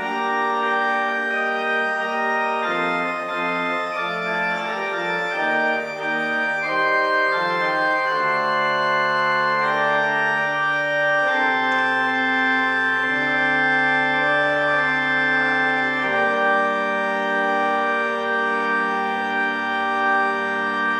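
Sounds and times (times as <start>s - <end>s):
organ playing sustained chords: 0.0s - 20.9s.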